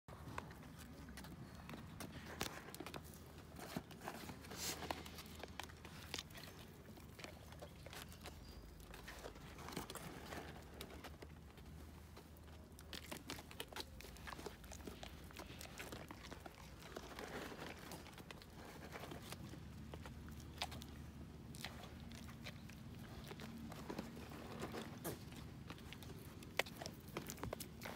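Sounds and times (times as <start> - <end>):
deer crunching and chewing: 0.1 - 27.9.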